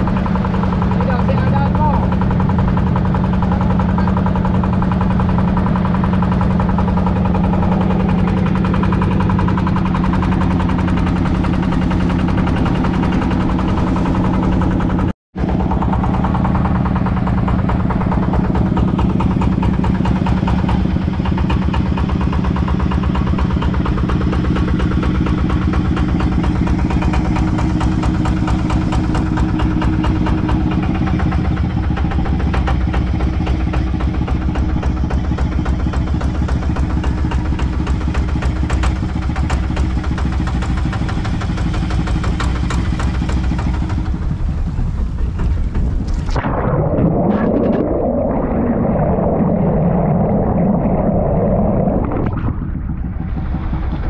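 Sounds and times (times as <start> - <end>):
boat engine running: 0.0 - 54.0
hull wash through water: 0.0 - 54.0.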